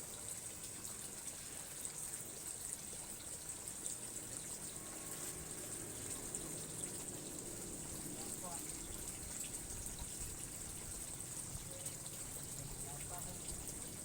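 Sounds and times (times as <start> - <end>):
running water rushing: 0.0 - 14.0.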